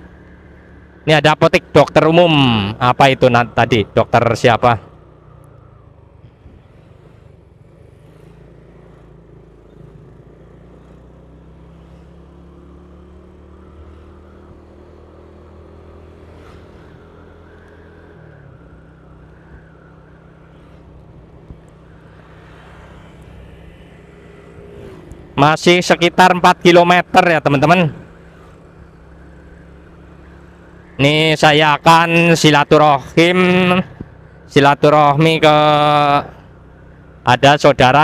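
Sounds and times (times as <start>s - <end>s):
road noise: 0.0s - 38.0s.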